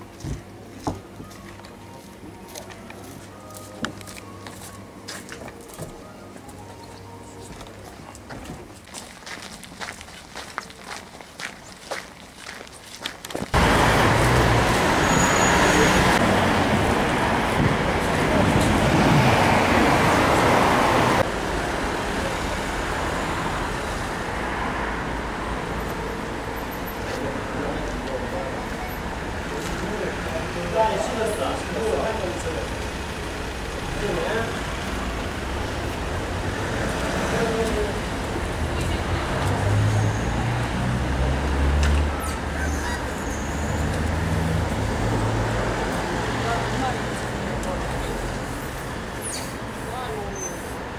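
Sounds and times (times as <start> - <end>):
city traffic road noise: 0.0 - 50.9.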